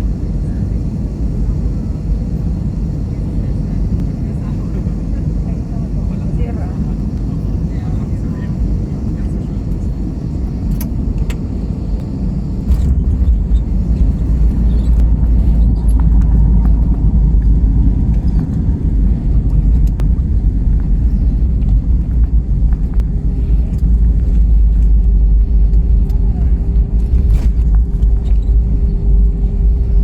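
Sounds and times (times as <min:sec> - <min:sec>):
airplane landing rumble in cabin: 0:00.0 - 0:30.0.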